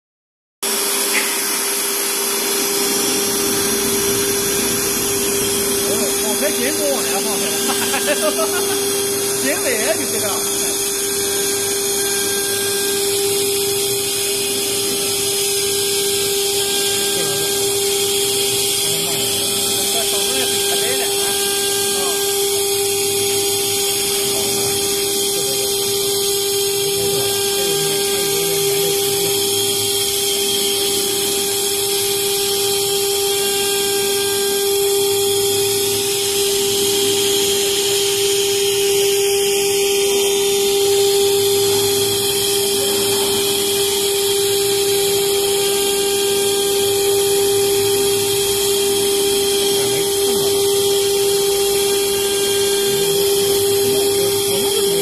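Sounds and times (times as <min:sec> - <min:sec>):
router spindle whine: 0:00.6 - 0:55.0
hiss of metal cutting: 0:01.0 - 0:55.0.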